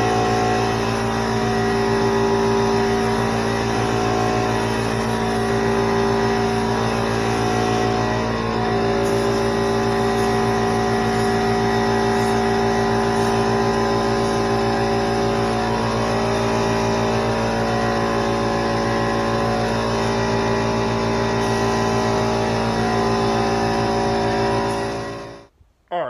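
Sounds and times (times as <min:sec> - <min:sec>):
spray gun hissing: 0:00.0 - 0:25.3
air compressor humming: 0:00.0 - 0:25.5.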